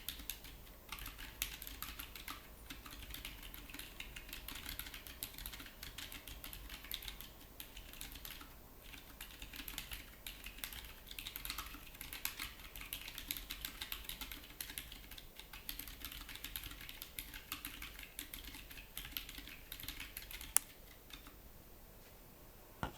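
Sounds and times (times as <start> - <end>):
soft rapid keyboard key clicks: 0.0 - 21.4.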